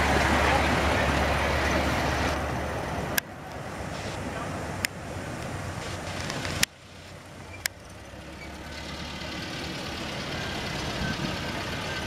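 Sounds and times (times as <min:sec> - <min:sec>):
miniature train engine rumble: 0:00.0 - 0:12.0.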